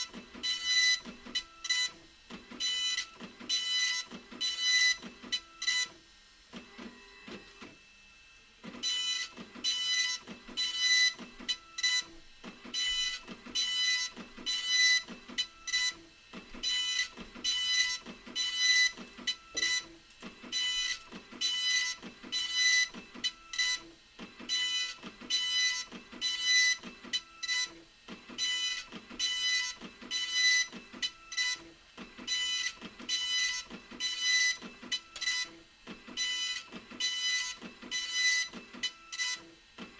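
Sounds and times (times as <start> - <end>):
dot-matrix printer buzzing: 0.0 - 39.9.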